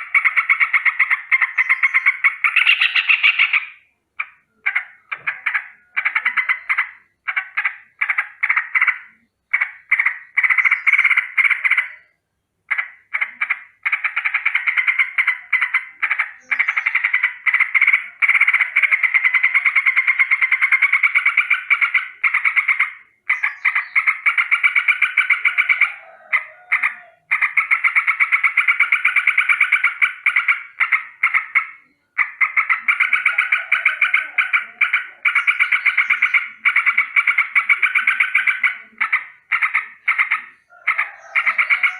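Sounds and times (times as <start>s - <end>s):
bird alarm call: 0.0s - 41.9s.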